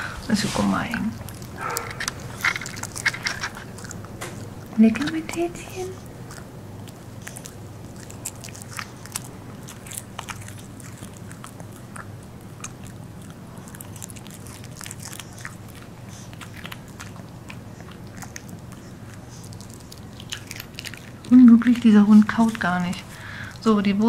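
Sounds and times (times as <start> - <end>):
dog eating wet smacks: 0.5 - 24.0.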